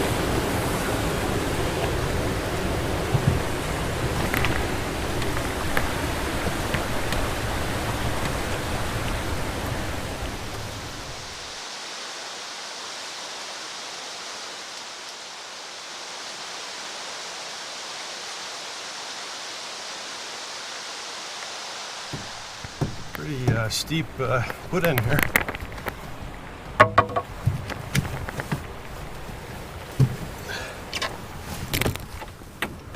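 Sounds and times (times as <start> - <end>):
water rushing over rapids: 0.0 - 32.9.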